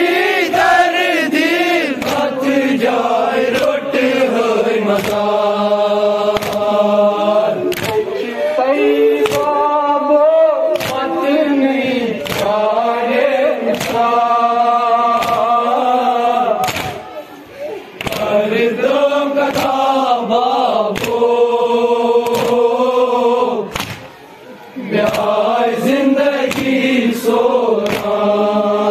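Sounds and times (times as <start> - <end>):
men chanting lament: 0.0 - 28.9.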